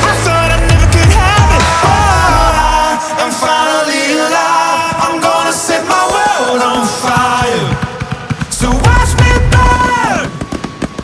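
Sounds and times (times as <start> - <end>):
pop song with singing: 0.0 - 10.9.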